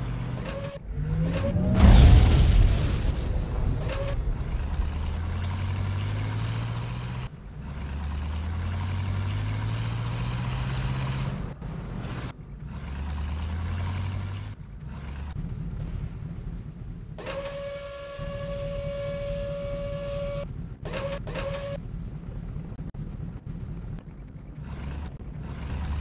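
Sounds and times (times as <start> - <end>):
engine revving: 0.0 - 21.8, 24.5 - 26.0.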